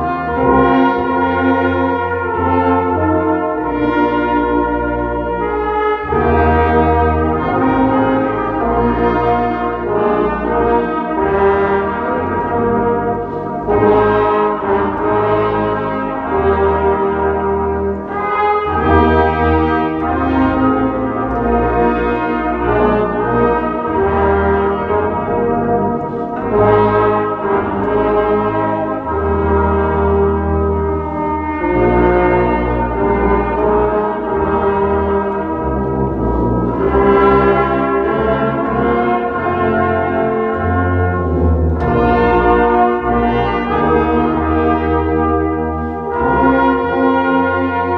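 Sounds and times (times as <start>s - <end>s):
brass ensemble playing chords: 0.0s - 47.9s.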